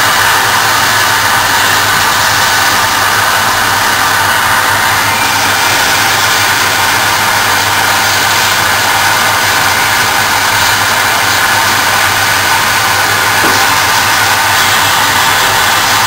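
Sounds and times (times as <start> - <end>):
dust extraction rushing: 0.0 - 16.0
sandpaper on spinning wood: 0.0 - 16.0
wood lathe running: 0.0 - 16.0.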